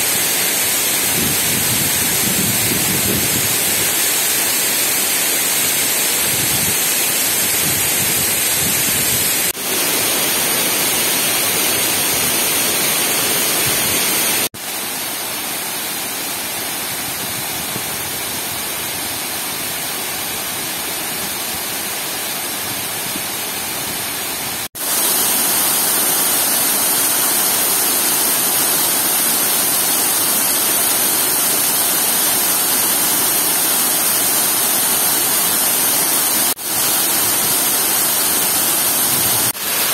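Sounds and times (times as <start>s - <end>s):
water rushing over dam spillway: 0.0s - 39.9s.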